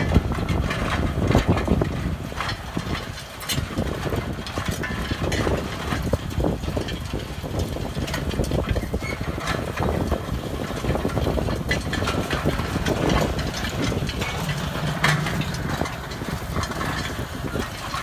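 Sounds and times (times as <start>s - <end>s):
cultivator rattling and knocking: 0.0s - 18.0s
tractor diesel engine running: 0.0s - 18.0s.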